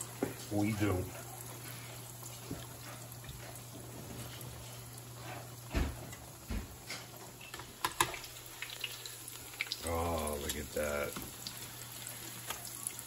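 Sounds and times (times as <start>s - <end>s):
cutlets sizzling in oil: 0.0s - 13.0s.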